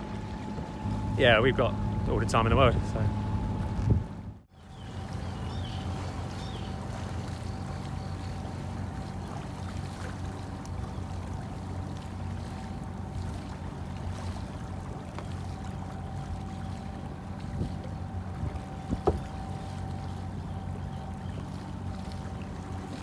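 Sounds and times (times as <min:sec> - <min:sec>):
boat engine running steadily: 0:00.0 - 0:23.0
thin steady whine: 0:00.0 - 0:23.0
water rushing past hull: 0:00.0 - 0:23.0.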